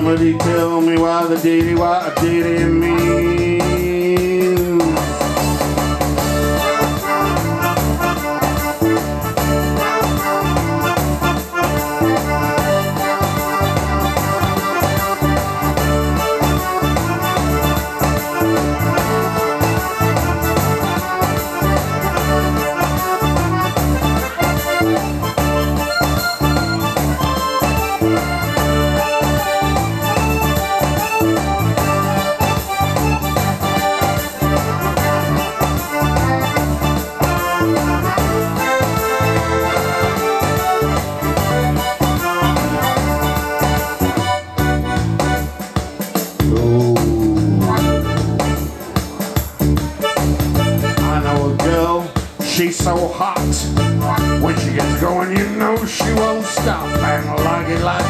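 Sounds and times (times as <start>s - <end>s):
bass and drum beat: 0.0s - 58.0s
electric keyboard playing: 0.0s - 58.0s.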